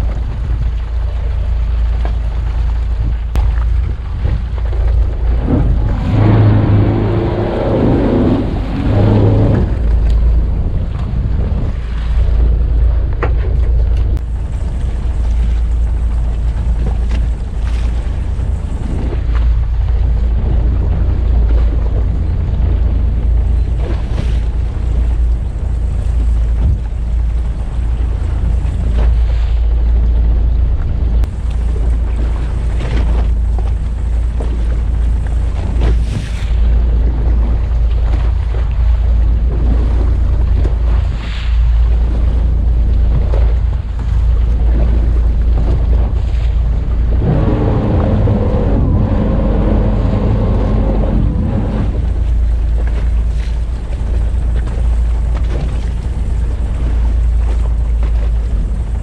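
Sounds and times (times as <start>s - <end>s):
steady low rumble: 0.0s - 59.0s
water sloshing against hull: 0.0s - 59.0s
wind buffeting microphone: 0.0s - 59.0s.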